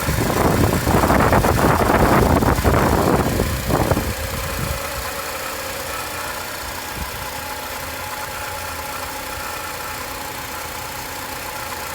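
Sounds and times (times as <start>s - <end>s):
car engine idling with rattle: 0.0s - 11.9s
engine knock: 0.0s - 11.9s.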